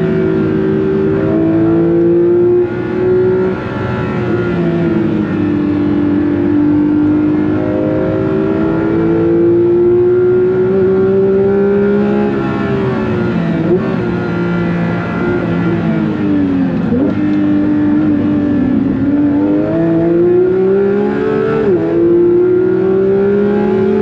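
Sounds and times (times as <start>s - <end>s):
sports car engine revving hard: 0.0s - 24.0s.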